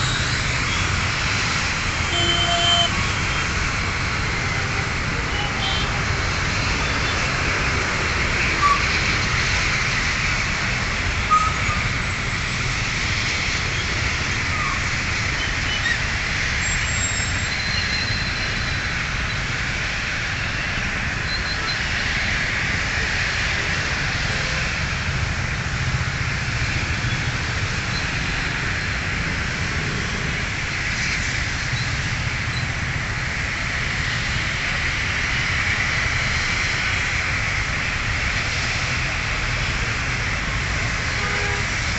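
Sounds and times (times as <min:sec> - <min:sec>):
constant traffic hiss: 0:00.0 - 0:41.9
low rumble of vehicles: 0:00.0 - 0:41.9.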